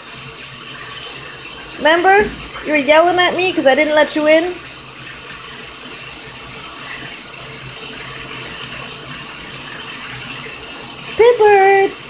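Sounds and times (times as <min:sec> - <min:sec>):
water pouring into bathtub: 0:00.0 - 0:12.0.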